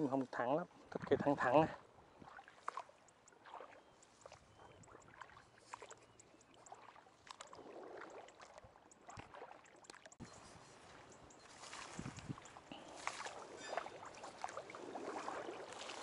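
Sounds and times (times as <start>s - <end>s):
footsteps through wet grass: 1.7s - 16.0s.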